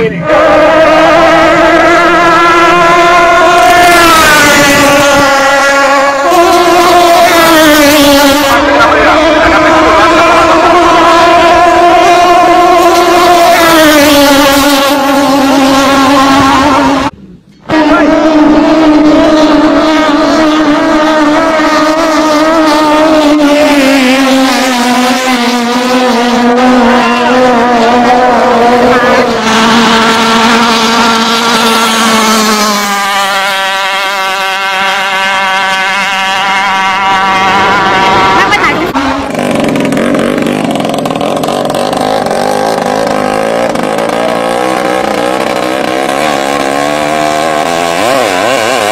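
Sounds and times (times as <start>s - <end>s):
speedboat engine at high revs: 0.0s - 48.9s.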